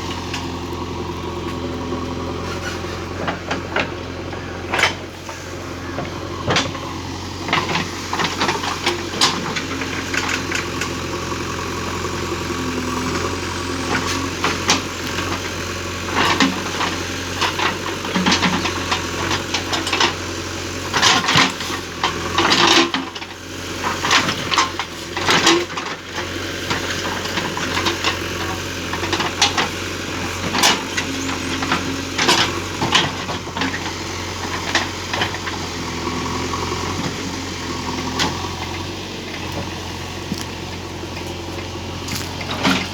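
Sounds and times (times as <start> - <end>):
digging machine engine running: 0.0 - 42.9.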